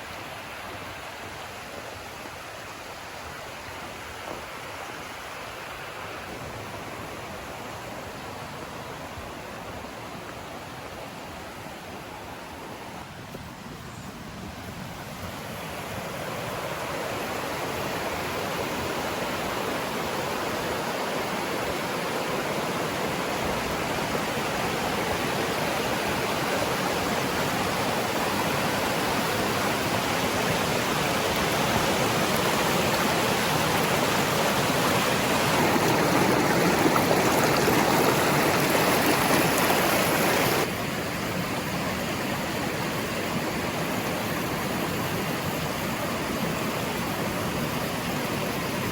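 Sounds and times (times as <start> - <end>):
stream rushing over cascades: 0.0 - 48.9.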